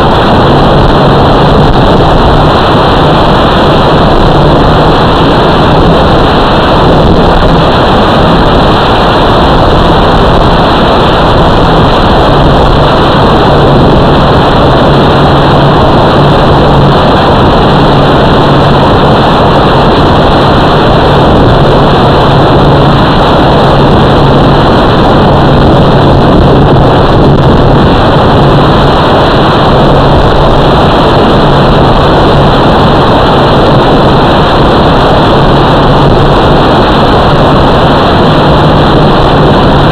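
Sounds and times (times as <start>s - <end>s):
low hum: 0.0s - 39.9s
model motor and wind rushing: 0.0s - 39.9s.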